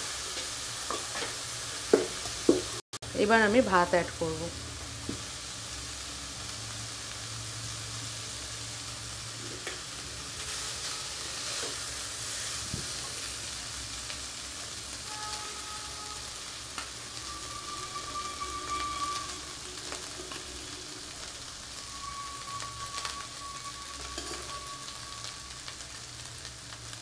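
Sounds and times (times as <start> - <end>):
rice sizzling in oil: 0.0 - 27.0.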